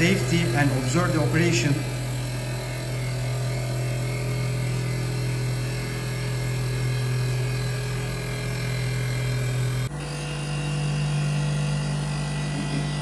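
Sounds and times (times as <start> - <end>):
lathe motor hum with whine: 0.0 - 13.0.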